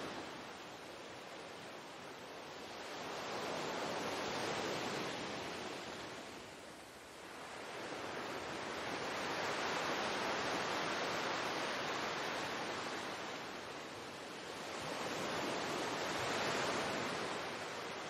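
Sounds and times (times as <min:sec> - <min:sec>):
ocean surf: 0:02.8 - 0:18.0.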